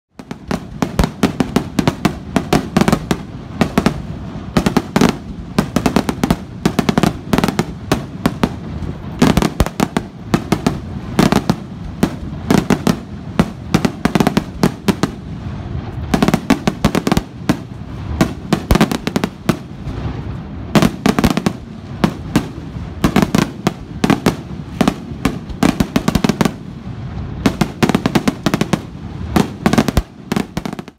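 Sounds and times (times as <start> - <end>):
fireworks bangs and crackling: 0.1 - 30.9.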